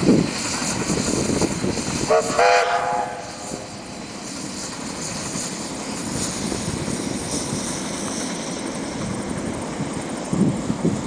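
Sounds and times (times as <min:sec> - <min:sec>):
steam train rumbling past: 0:00.0 - 0:11.0.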